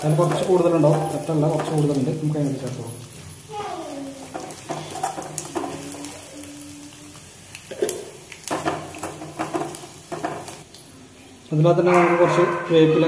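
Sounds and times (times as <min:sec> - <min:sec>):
light sizzle: 0:00.0 - 0:13.0.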